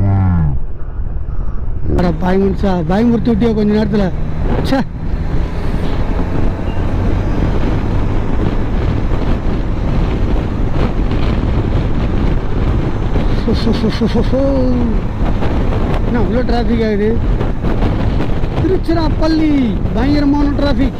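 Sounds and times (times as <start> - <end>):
wind buffeting microphone: 0.0 - 20.9
motorcycle engine and road noise: 2.0 - 20.9.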